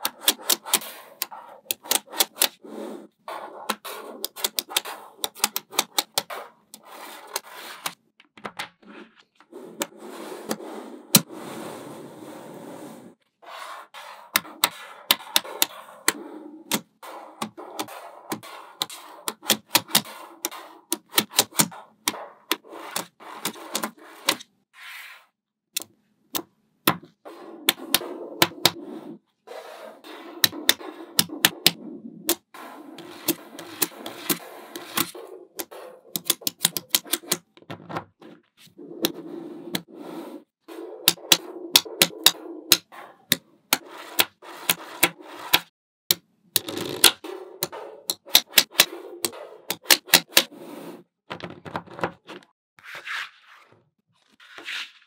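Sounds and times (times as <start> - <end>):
magnetic balls rubbing and rolling: 0.0 - 24.9, 26.9 - 45.7, 46.6 - 52.5.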